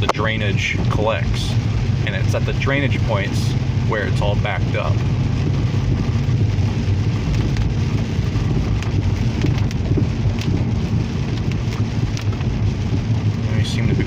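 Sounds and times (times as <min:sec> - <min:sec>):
car road rumble: 0:00.0 - 0:14.0
heavy rain on a car: 0:00.0 - 0:14.0
raindrop ticks: 0:00.0 - 0:14.0.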